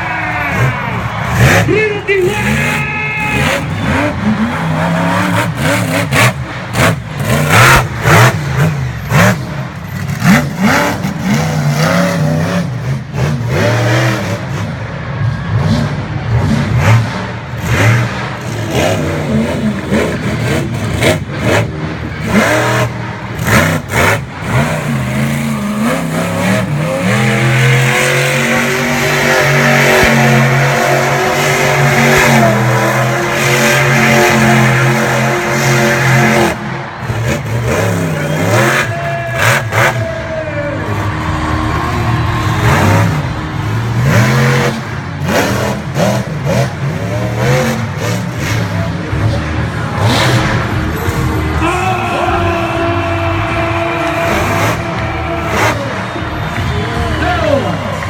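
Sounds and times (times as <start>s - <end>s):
truck engine revving hard: 0.0s - 58.0s.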